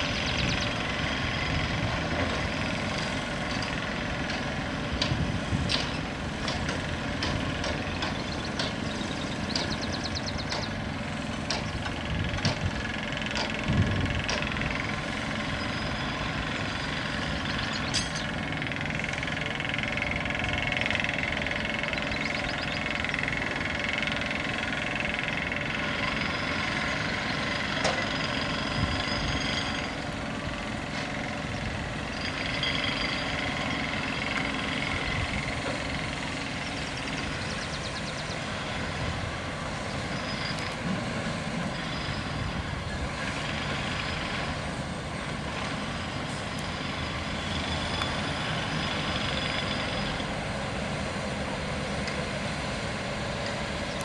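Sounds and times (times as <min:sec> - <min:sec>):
heavy machinery engine rumble: 0:00.0 - 0:54.0.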